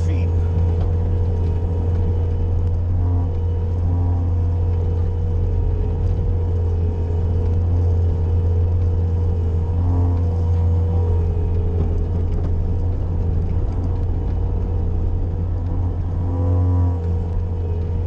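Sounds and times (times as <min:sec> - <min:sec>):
loader engine droning: 0:00.0 - 0:18.0.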